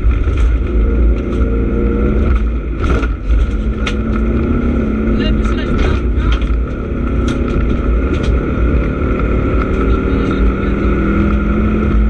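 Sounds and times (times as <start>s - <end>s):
rally car engine under load: 0.0s - 12.0s
tyres rumbling on gravel: 0.0s - 12.0s.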